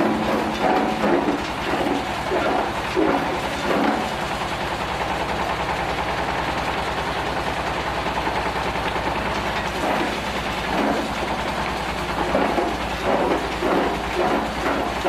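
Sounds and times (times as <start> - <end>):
stone crusher machine running: 0.0 - 15.0.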